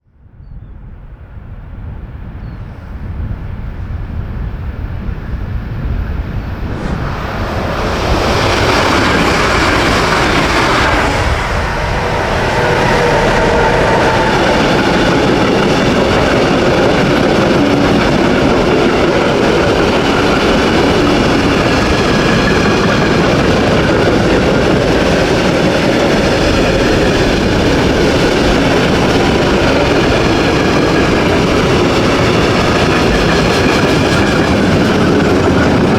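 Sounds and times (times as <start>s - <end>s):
freight train passing: 0.9s - 35.9s.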